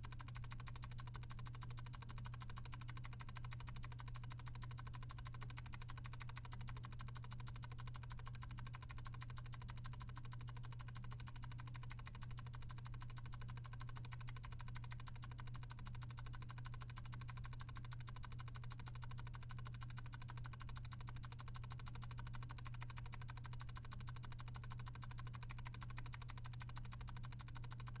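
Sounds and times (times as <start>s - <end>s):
fan timer ticking rapidly: 0.0s - 28.0s.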